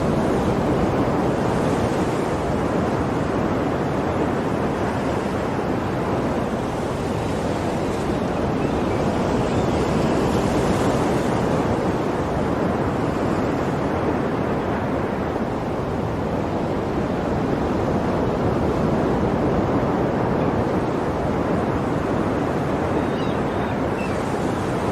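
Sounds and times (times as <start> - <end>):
ocean waves breaking: 0.0 - 24.9.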